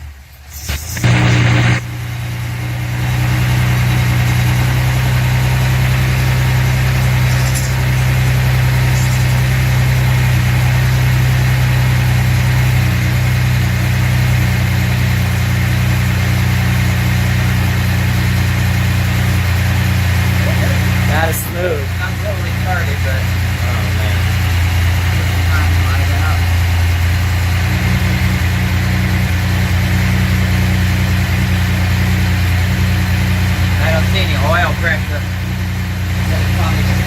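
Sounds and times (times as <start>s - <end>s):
car engine revving and idling: 0.0s - 37.0s.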